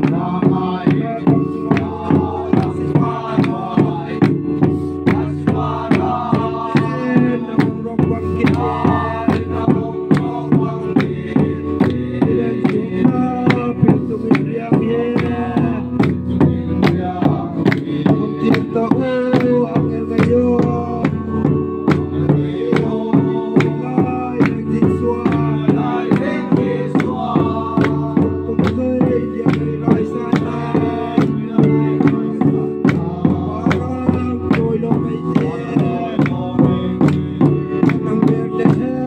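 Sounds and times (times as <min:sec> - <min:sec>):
barrel drums beaten with sticks: 0:00.0 - 0:39.0
hand clapping: 0:00.0 - 0:39.0
men singing: 0:00.0 - 0:39.0.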